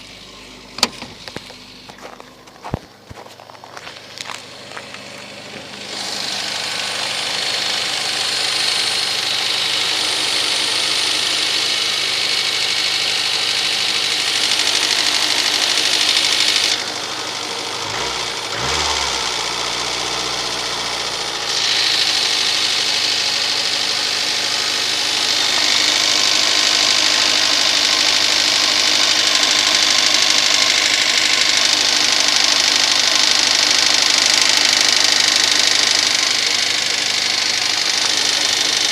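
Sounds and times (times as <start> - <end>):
car engine idling: 0.0 - 38.9
engine knocking crackle: 6.4 - 38.9.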